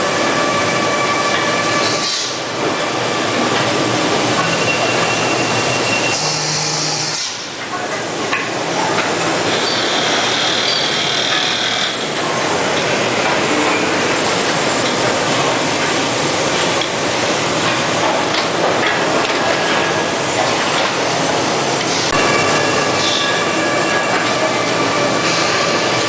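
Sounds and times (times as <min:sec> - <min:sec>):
production-line machinery running: 0:00.0 - 0:26.0.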